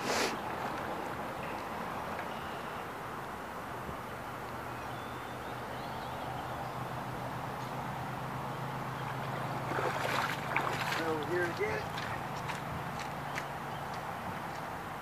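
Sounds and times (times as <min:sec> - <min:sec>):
water noise: 0:00.0 - 0:15.0
wind: 0:00.0 - 0:15.0.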